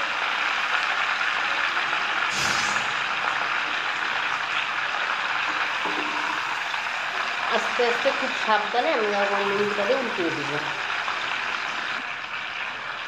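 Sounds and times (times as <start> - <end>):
oil sizzling around chicken: 0.0 - 13.0.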